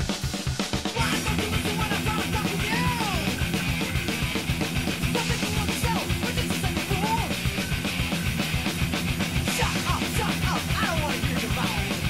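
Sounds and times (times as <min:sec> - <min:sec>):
fast rock music: 0:00.0 - 0:12.0.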